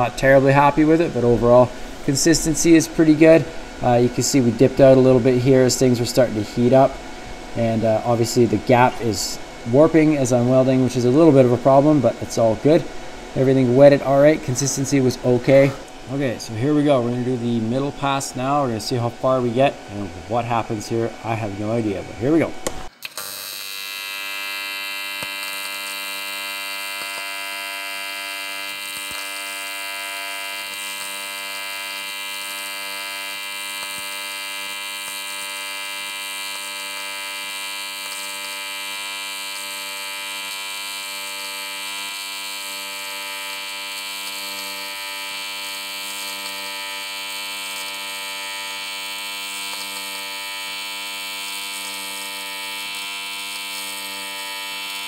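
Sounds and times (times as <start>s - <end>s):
welding arc buzzing: 0.0s - 55.0s.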